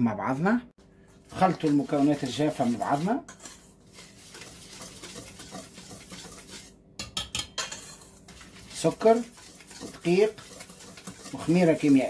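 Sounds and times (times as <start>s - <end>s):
whisk scraping flour in bowl: 1.0s - 12.0s
whisk clicking against metal bowl: 1.4s - 12.0s.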